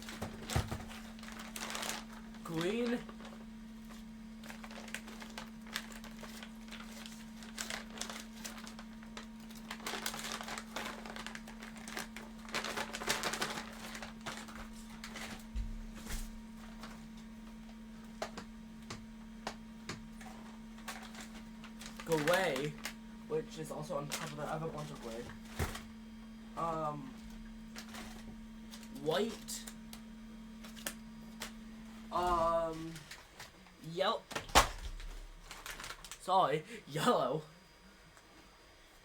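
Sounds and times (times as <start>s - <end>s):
plastic-wrapped spools rustling: 0.0s - 26.0s, 26.6s - 33.7s, 34.3s - 36.3s
steady low hum: 0.0s - 39.0s.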